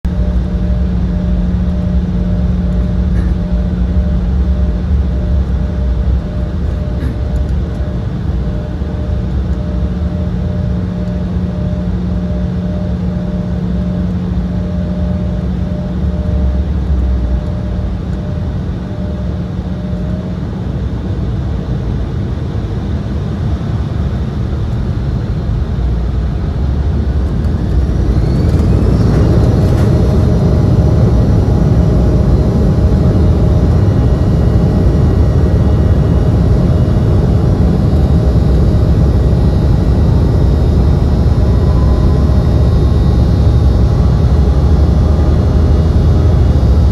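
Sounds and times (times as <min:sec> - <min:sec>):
jet engines spooling up: 0:00.1 - 0:20.5, 0:24.7 - 0:46.9.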